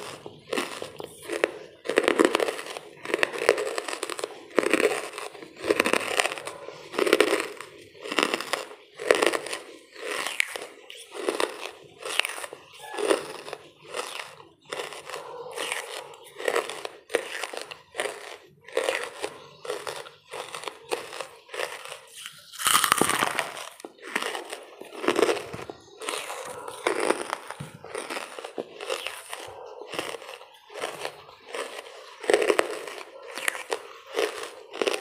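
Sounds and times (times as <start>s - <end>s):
chewing brittle crunches: 0.0s - 35.0s.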